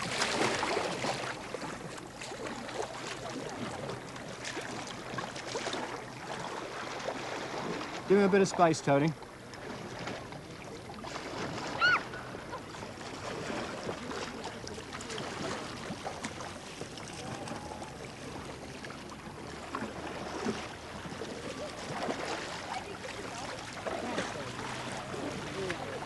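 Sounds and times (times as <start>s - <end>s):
kayak paddles splashing: 0.0s - 26.0s.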